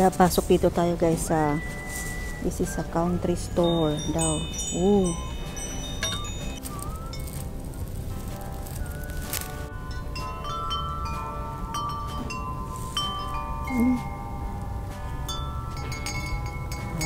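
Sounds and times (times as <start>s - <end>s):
wind chimes ringing: 1.3s - 17.0s.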